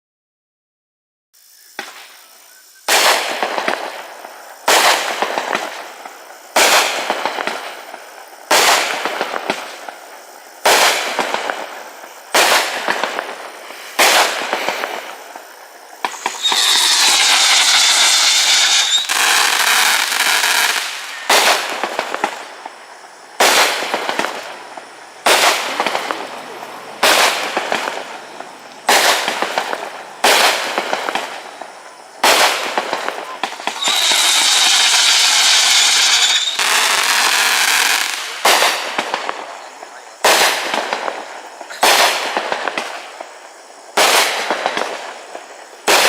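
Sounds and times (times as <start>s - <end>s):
shrill firework whistles: 1.4s - 43.0s
crackle and hiss of stars: 1.4s - 46.0s
firework shots: 1.7s - 46.0s.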